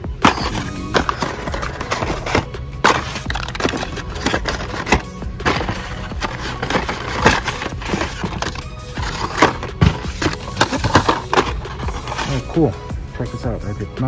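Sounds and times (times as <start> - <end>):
plastic blister packs clacking: 0.0 - 12.6.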